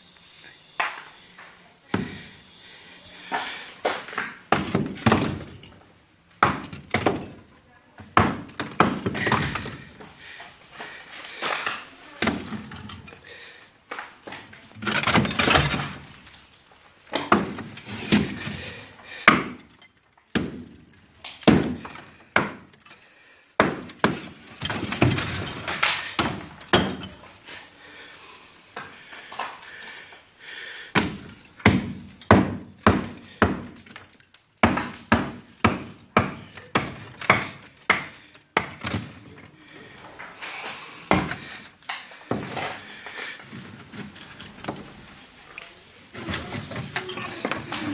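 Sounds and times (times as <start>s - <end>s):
bricks crashing and falling: 3.2s - 27.7s, 30.9s - 40.4s, 41.0s - 47.9s.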